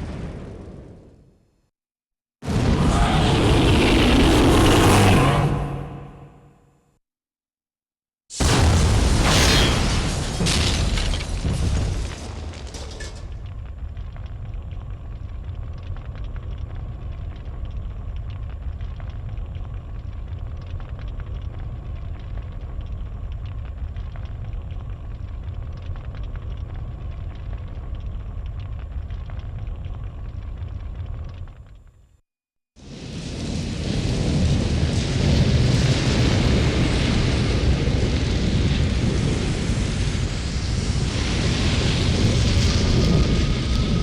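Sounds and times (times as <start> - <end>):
large fire burning: 0.0 - 1.6, 2.4 - 6.3, 8.3 - 32.2, 32.8 - 44.0.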